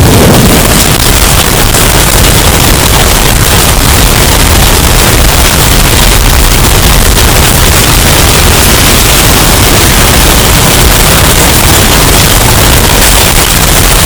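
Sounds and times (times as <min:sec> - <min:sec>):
distorted bass-heavy wind noise: 0:00.0 - 0:14.0.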